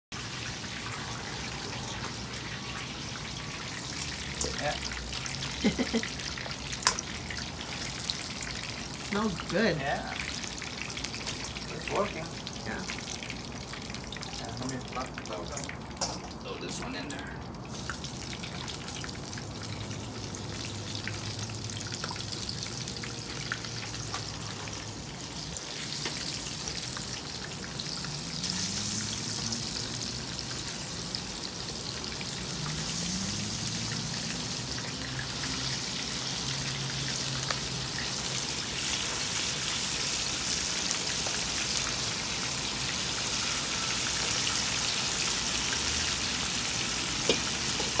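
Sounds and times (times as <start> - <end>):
food sizzling in hot oil: 0.2 - 48.0.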